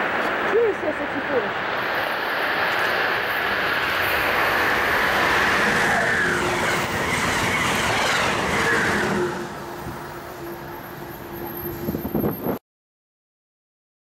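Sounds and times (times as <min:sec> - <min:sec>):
passenger train passing at speed: 0:00.0 - 0:12.6.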